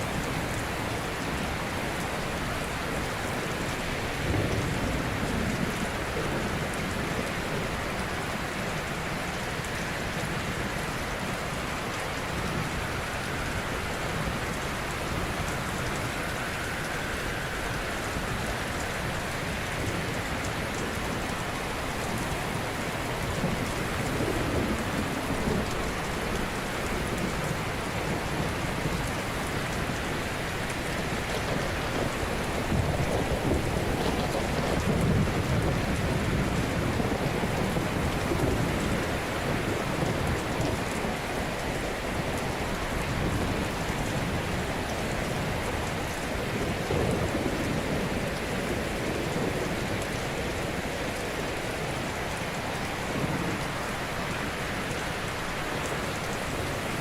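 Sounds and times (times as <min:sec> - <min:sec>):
waves washing ashore: 0:00.0 - 0:57.0.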